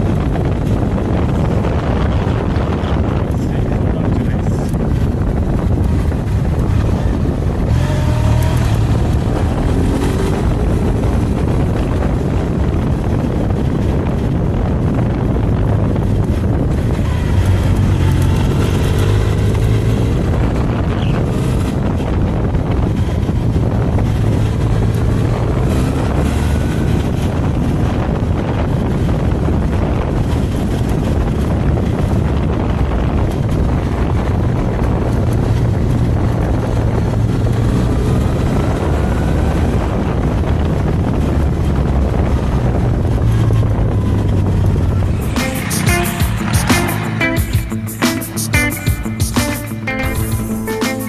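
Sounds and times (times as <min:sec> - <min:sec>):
motorcycle engine running: 0:00.0 - 0:51.0
wind rushing over microphone: 0:00.0 - 0:51.0.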